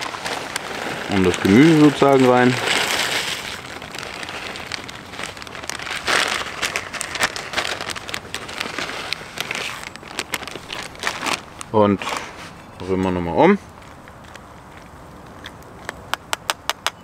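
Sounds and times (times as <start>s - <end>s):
plastic bag crinkling: 0.0s - 16.4s
wood fire crackling and popping: 0.0s - 17.0s.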